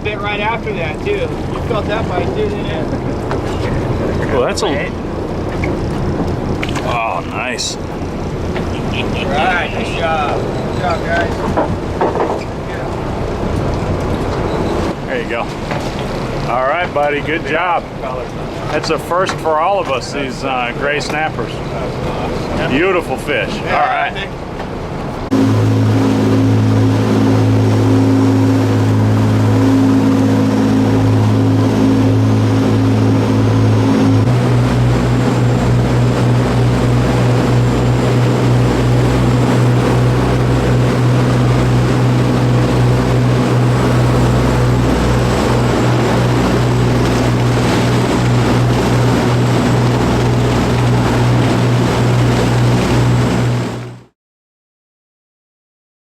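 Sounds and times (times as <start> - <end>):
boat engine drone: 0.0 - 54.1.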